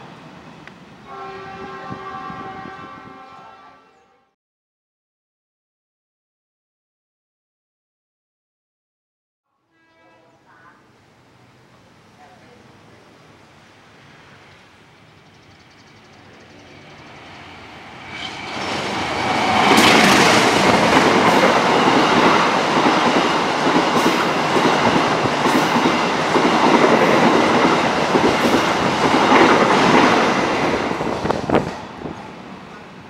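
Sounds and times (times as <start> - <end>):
diesel passenger train passing: 0.0 - 3.9, 9.8 - 33.0.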